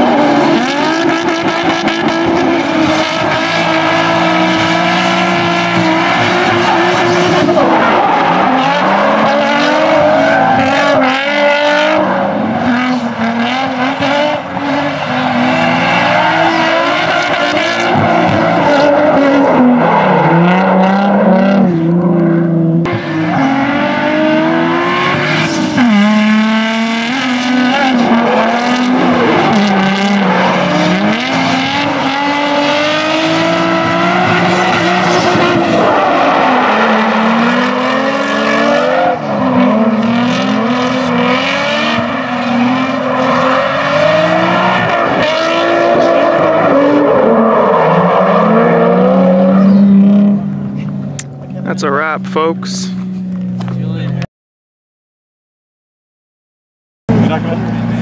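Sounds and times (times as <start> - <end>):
car engines revving: 0.0 - 54.3, 57.1 - 58.0.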